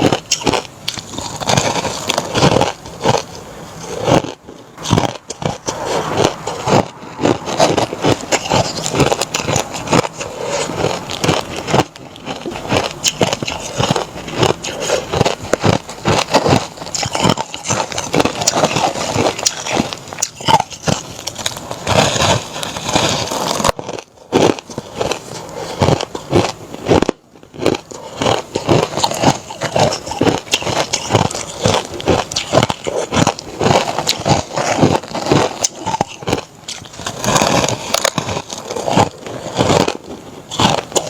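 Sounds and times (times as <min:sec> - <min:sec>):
crushed ice being chewed: 0:00.0 - 0:41.0.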